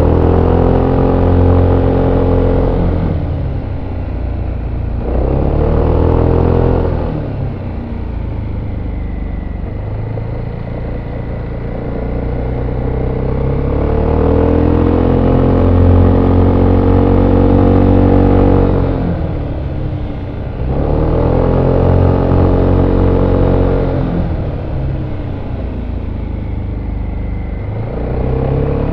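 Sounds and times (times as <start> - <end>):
scooter engine accelerating: 0.0 - 28.9.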